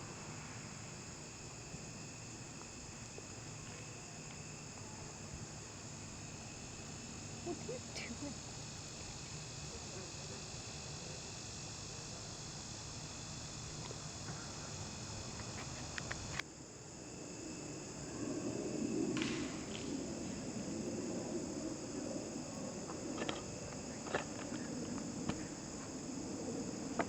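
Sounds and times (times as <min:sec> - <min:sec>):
crickets and insects trilling: 0:00.0 - 0:27.0.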